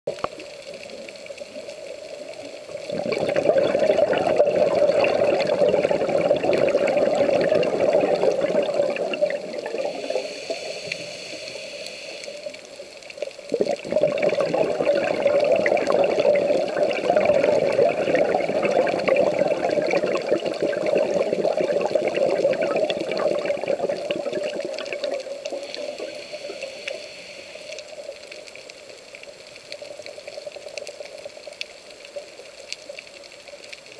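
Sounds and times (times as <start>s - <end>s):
underwater bubbles rising: 0.1s - 11.3s, 12.3s - 33.9s
quiet hiss: 0.1s - 33.9s.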